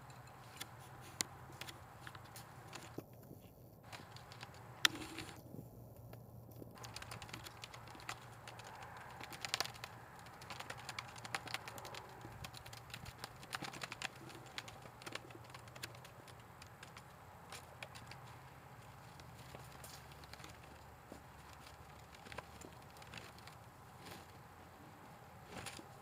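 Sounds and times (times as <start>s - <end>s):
plastic flag flapping and crackling: 0.5s - 24.8s, 25.4s - 26.0s.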